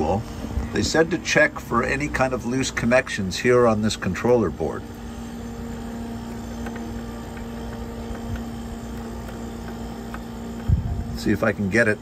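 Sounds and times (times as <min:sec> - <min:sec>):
refrigerator compressor and fan hum: 0:00.0 - 0:12.0.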